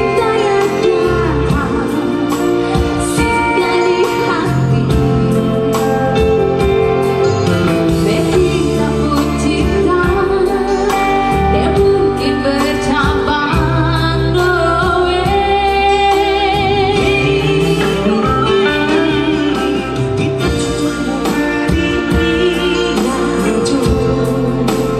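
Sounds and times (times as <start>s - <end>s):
woman singing into microphone: 0.0s - 24.9s.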